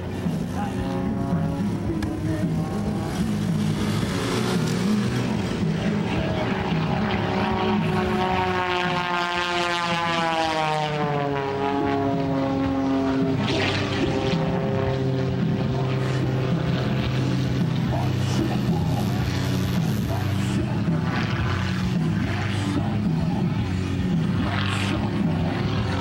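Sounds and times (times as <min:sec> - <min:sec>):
propeller plane engine passing: 0:00.0 - 0:26.0.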